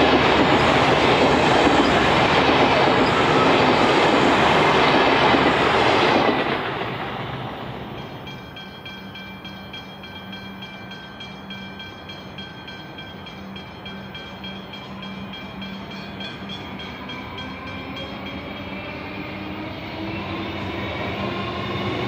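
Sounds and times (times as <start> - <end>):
electric train approaching: 0.0 - 22.0
train whine rising in pitch: 0.0 - 22.0.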